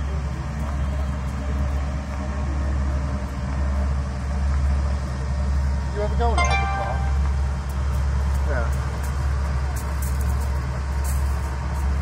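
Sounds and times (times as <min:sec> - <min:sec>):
hovercraft engine drone: 0:00.0 - 0:12.0.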